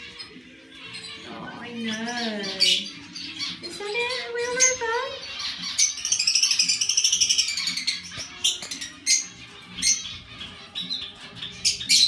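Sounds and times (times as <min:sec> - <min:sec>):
pet birds chirping: 0:00.0 - 0:12.0.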